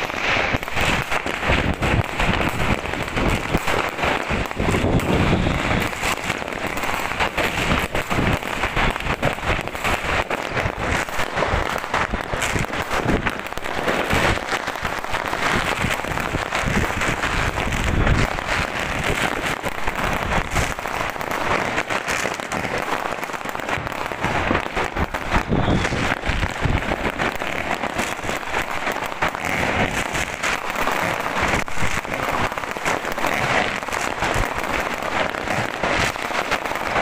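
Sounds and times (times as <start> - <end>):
fireworks and firecrackers crackling: 0.0 - 37.0.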